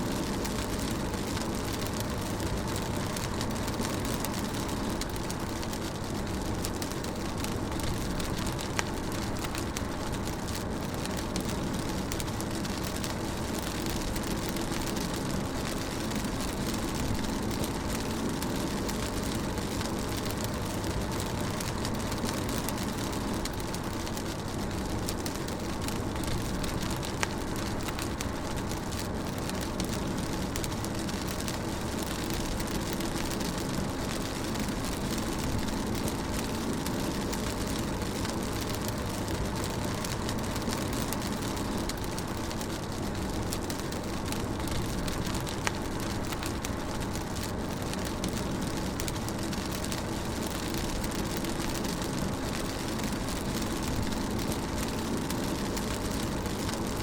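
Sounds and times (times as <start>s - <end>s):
rain drumming on a car: 0.0s - 57.0s
raindrops ticking: 0.0s - 57.0s.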